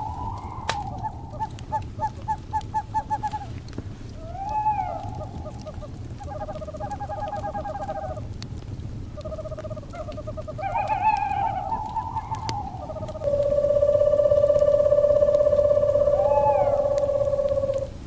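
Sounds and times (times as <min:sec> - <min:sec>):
owls calling: 0:00.0 - 0:03.6, 0:04.2 - 0:08.2, 0:09.2 - 0:18.0
burning wood popping: 0:00.0 - 0:15.9
low rumble of fire: 0:00.0 - 0:18.0.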